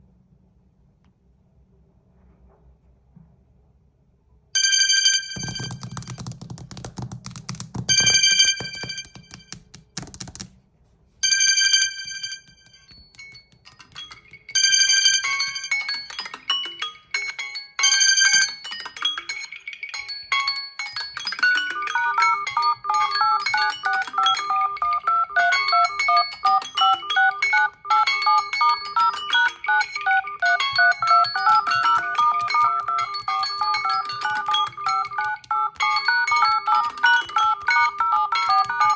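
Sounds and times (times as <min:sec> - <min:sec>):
phone ringtone: 0:04.6 - 0:10.5, 0:11.2 - 0:38.9.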